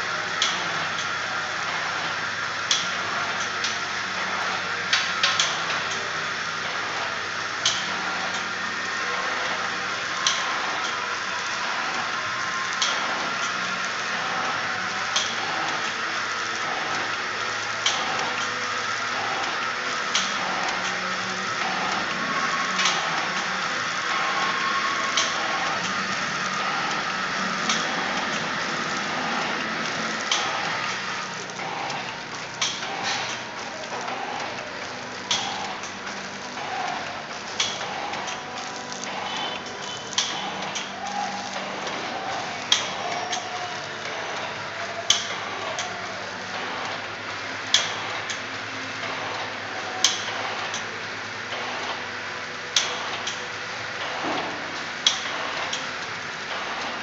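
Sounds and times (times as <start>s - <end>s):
packing machine running: 0.0s - 57.0s.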